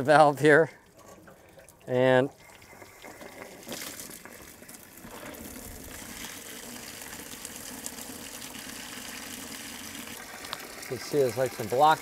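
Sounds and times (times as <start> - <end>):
water gushing into bucket: 0.9 - 12.0.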